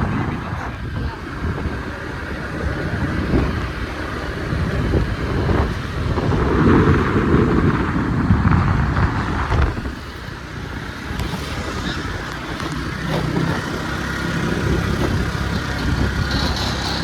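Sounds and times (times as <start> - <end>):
road noise: 0.0 - 17.0
scooter motor: 0.0 - 17.0
wind rushing over microphone: 0.0 - 17.0.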